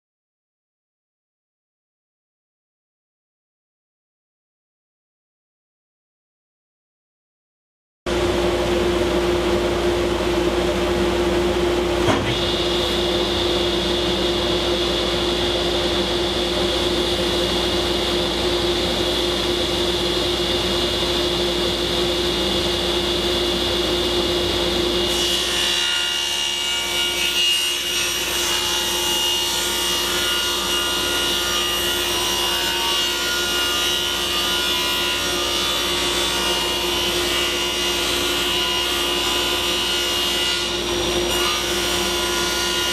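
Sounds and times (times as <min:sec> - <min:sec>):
table saw whining: 0:08.2 - 0:42.9.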